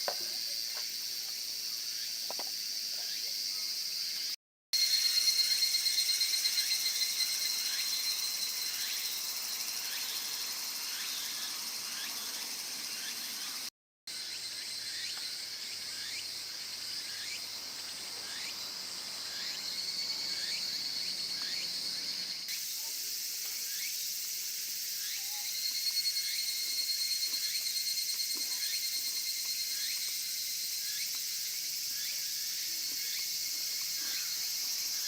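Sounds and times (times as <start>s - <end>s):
insects shrilling: 0.0s - 35.0s.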